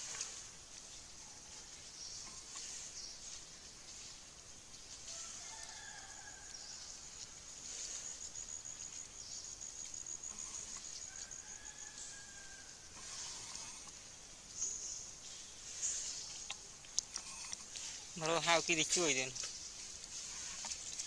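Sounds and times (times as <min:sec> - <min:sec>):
insects shrilling: 0:02.0 - 0:21.0.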